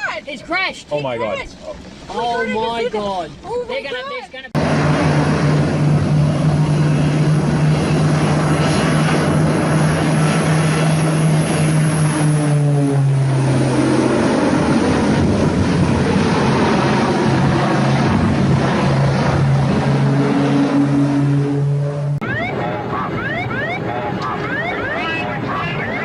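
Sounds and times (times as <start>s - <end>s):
propeller aircraft engine drone: 4.6s - 26.0s
rushing noise: 4.6s - 26.0s.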